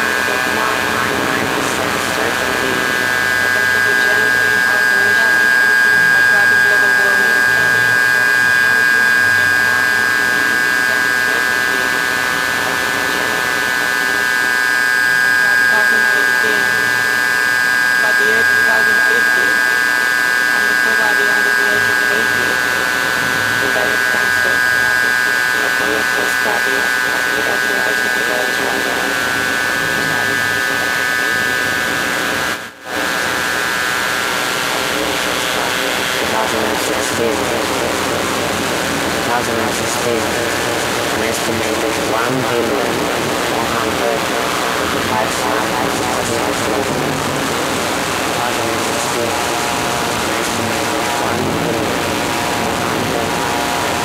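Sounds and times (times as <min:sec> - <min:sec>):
electronic drone of held tones: 0:00.0 - 0:54.0.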